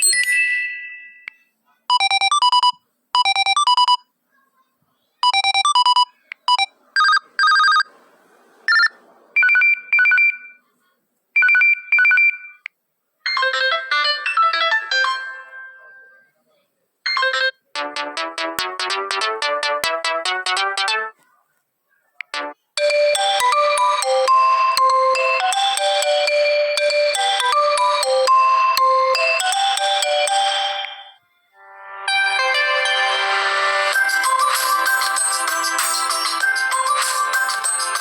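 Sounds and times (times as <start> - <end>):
phone ringtone beeping: 0.0 - 1.4, 2.0 - 4.0, 5.2 - 7.9, 8.7 - 10.6, 11.4 - 12.6, 13.3 - 16.0, 17.1 - 21.2, 22.3 - 38.0.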